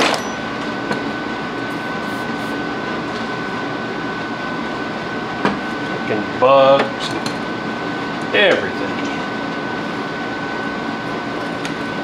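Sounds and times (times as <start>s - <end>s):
fan whooshing: 0.0s - 12.0s
high whine: 0.0s - 12.0s.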